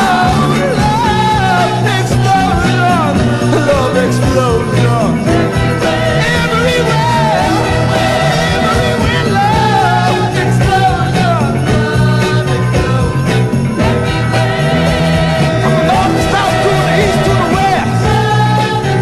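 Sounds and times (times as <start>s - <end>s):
band with bass and drums: 0.0s - 19.0s
soul song with male vocal: 0.0s - 19.0s.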